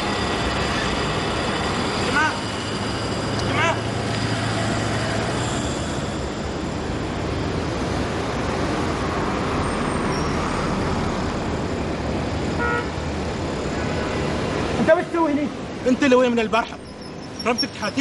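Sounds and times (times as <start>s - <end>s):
cars driving past: 0.0s - 18.0s.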